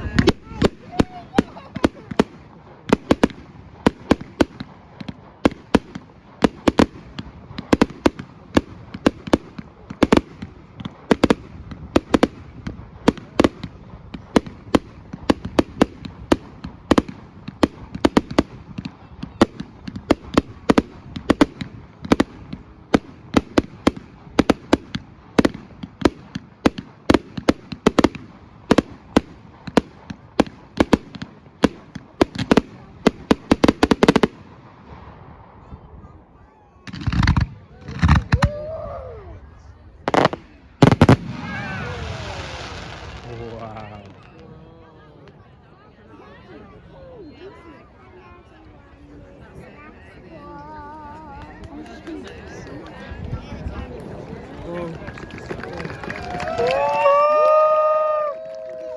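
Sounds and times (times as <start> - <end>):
fireworks bangs and cracks: 0.0 - 38.8, 40.0 - 44.5, 50.7 - 58.9.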